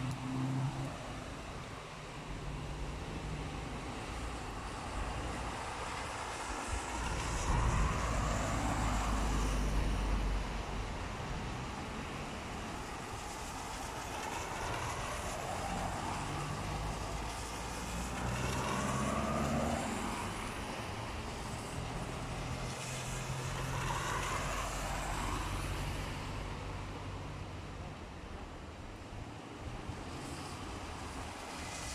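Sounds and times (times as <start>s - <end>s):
tyres hissing on wet road: 0.0s - 31.9s.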